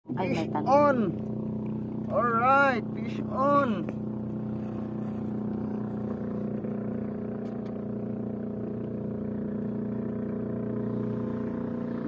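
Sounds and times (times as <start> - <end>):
motorboat engine drone: 0.1 - 12.0.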